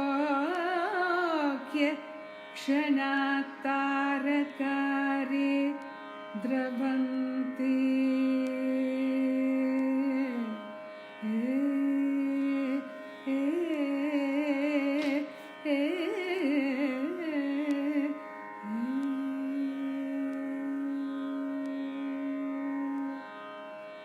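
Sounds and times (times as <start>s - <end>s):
woman singing wordless vocal: 0.0s - 2.0s, 2.6s - 22.4s.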